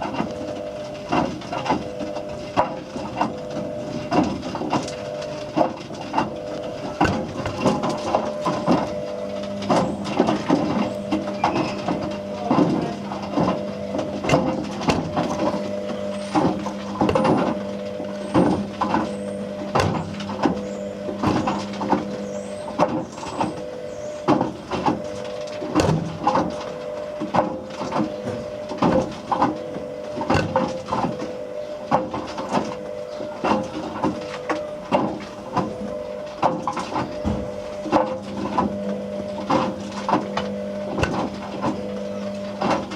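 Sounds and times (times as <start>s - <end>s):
lower hum: 0.0s - 42.9s
objects clattering in a drum: 0.0s - 42.9s
washing machine motor hum: 0.0s - 42.9s.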